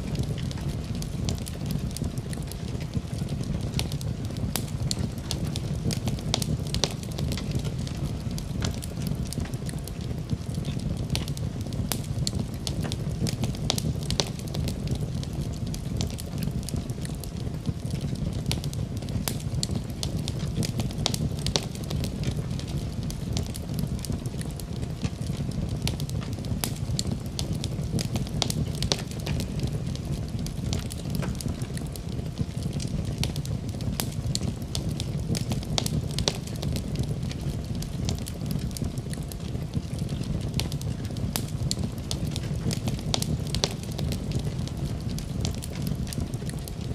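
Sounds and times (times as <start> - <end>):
fire crackling and popping: 0.0 - 46.9
fire low rumble: 0.0 - 46.9.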